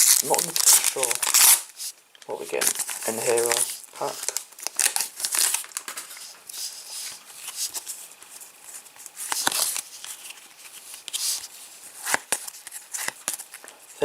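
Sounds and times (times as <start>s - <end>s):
foil packet crinkling: 0.0s - 1.9s, 2.5s - 14.0s.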